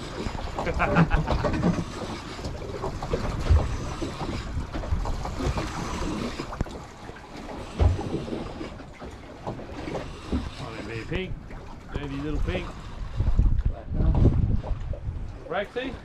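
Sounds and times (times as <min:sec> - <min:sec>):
wind on microphone: 0:00.0 - 0:06.8, 0:09.8 - 0:16.0
water washing around boat hull: 0:00.0 - 0:16.0.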